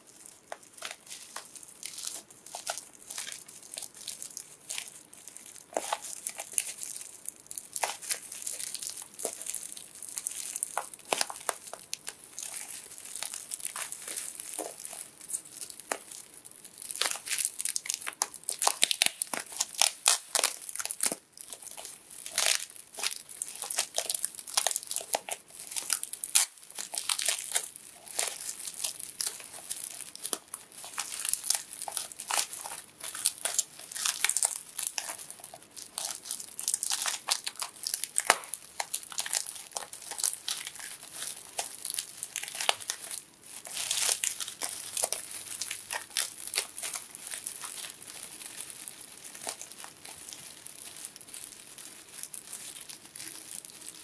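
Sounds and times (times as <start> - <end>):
bubble wrap crackling: 0.0 - 54.0.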